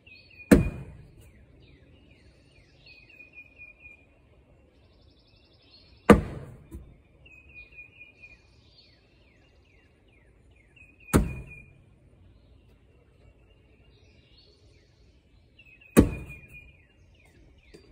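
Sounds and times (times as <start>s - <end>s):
birds singing: 0.0s - 17.9s.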